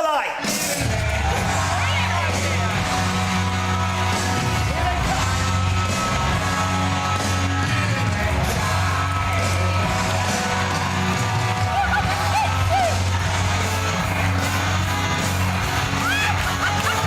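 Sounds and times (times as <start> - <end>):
upbeat music with strong bass: 0.0 - 17.0
crowd whooping and cheering: 0.4 - 17.0.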